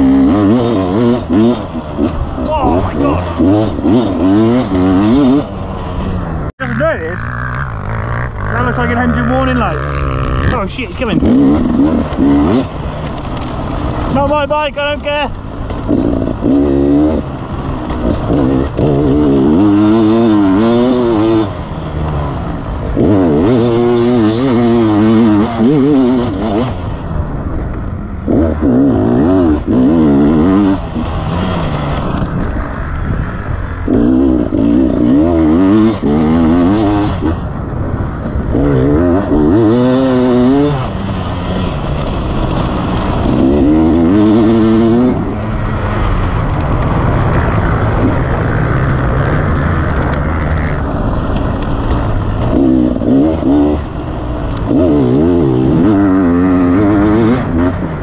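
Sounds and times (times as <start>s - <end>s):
dirt bike engine revving: 0.0s - 27.4s, 28.2s - 58.0s
steady rushing noise: 0.0s - 58.0s.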